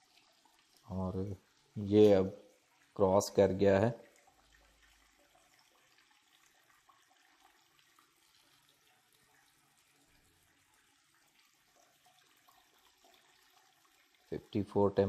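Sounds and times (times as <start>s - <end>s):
water pouring into plastic bucket: 0.0s - 3.0s, 4.0s - 14.6s.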